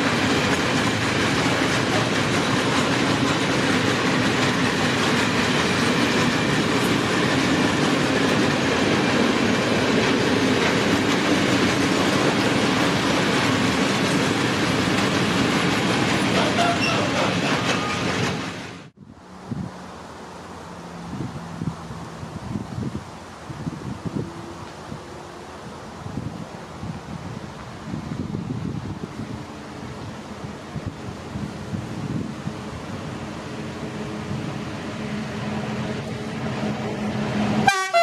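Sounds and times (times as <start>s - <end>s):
breeze outdoors: 0.0s - 38.0s
freight train wheels rumbling on rails: 0.0s - 38.0s.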